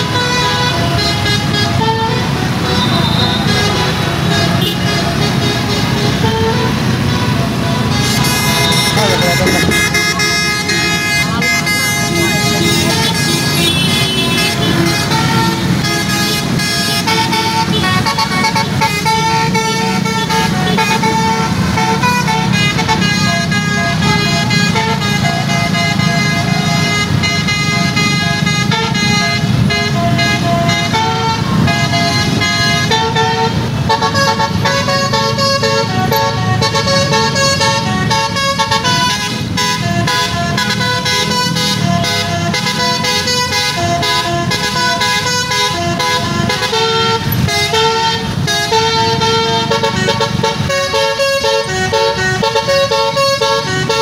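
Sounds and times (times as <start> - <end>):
musical air horn playing tune: 0.0 - 54.0
traffic engines rumbling: 0.0 - 54.0.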